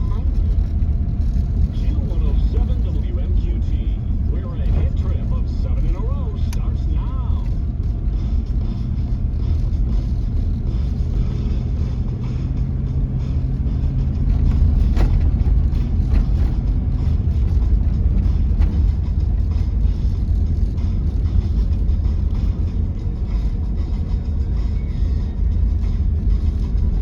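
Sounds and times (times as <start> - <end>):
faint engine hum: 0.0 - 27.0
vehicle low rumble: 0.0 - 27.0.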